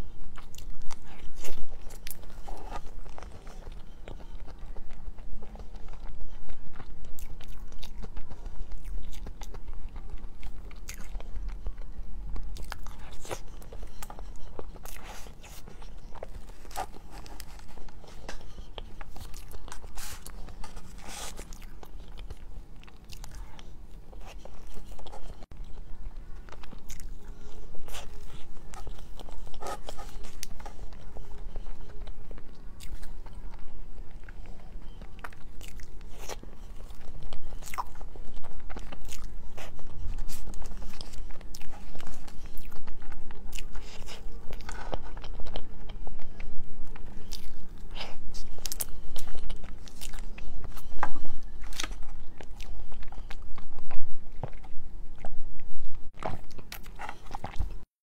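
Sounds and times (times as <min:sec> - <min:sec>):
person chewing: 0:00.0 - 0:57.9.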